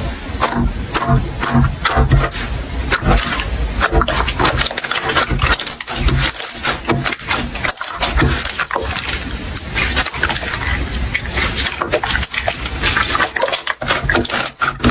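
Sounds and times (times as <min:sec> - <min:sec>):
slime squelching: 0:00.5 - 0:14.9.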